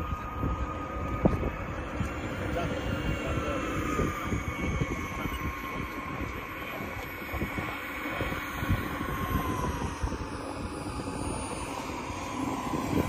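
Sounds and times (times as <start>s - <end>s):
model jet turbine whining: 0.0s - 13.0s
wind noise on microphone: 0.0s - 13.0s.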